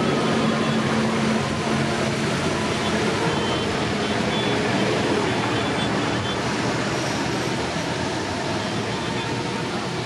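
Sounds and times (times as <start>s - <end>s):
diesel engines: 0.0s - 10.0s.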